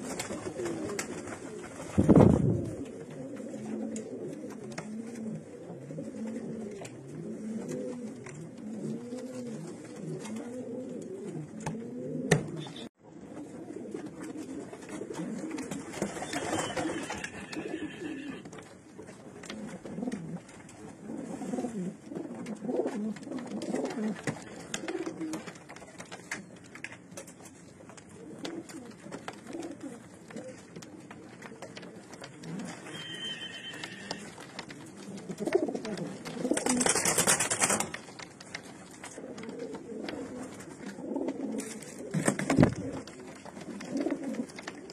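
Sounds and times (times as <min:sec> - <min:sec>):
pigeons cooing: 0:00.0 - 0:18.5, 0:19.5 - 0:25.6, 0:28.2 - 0:37.8, 0:39.1 - 0:44.9.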